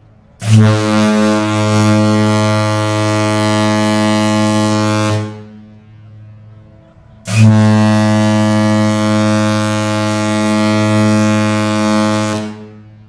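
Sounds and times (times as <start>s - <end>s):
deep ship horn blast: 0.4s - 6.4s, 7.2s - 13.0s.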